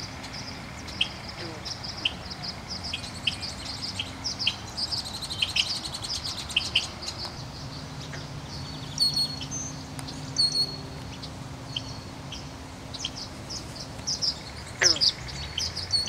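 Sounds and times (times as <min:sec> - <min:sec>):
buzzy bird trill: 0:00.0 - 0:16.0
songbirds chirping: 0:00.0 - 0:16.0.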